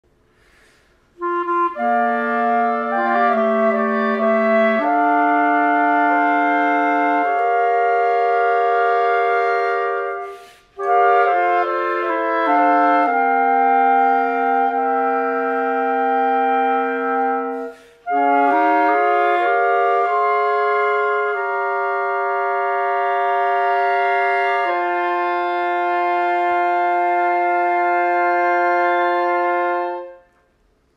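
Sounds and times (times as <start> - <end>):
clarinets playing in harmony: 0.4 - 30.5.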